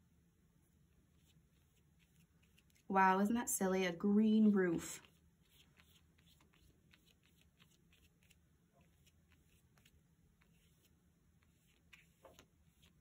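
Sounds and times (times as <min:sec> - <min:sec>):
paintbrush scratching on paper: 0:00.9 - 0:03.0, 0:04.6 - 0:13.0.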